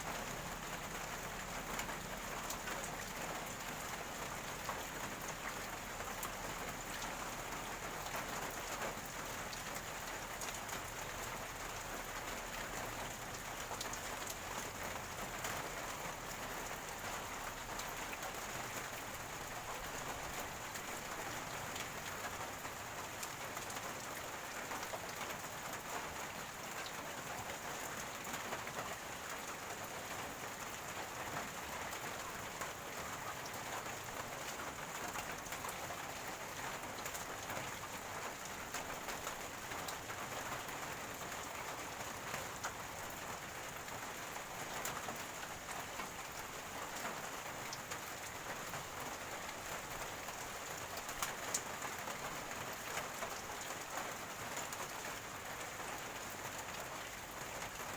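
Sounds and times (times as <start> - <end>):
rainwater running and gurgling: 0.0 - 57.9
steady rain falling: 0.0 - 57.9.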